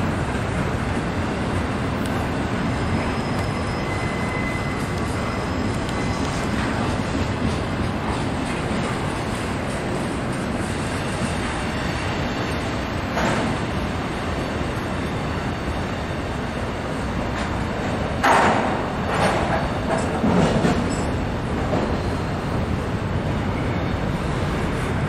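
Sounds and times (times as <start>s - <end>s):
freight train rumbling on rails: 0.0s - 25.0s.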